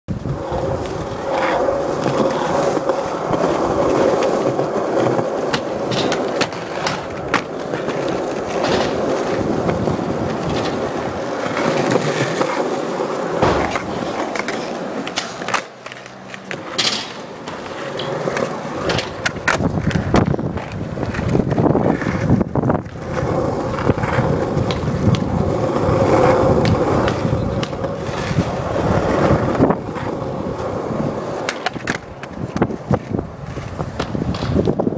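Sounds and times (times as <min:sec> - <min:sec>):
skateboard clacking on ground: 0:00.1 - 0:34.9
skateboard wheels rolling on concrete: 0:00.1 - 0:34.9.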